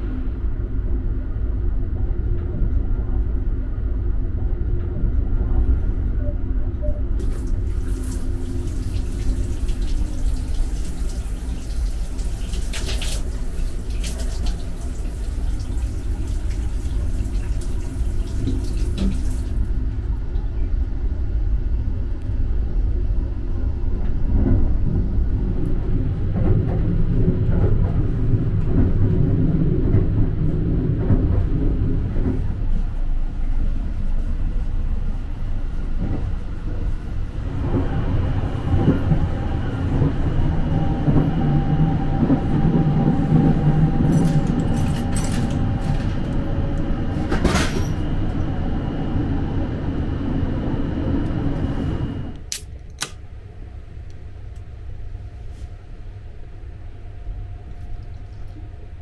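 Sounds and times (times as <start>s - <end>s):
train wheels rumbling on rails: 0.0s - 52.6s.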